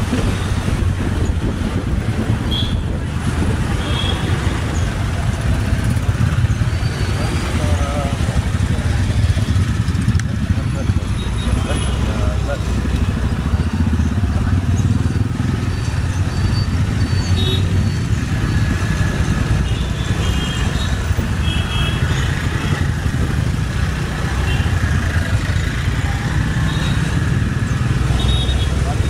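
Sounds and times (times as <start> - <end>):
city traffic: 0.0 - 29.0
motorbike engine and road rumble: 0.0 - 29.0.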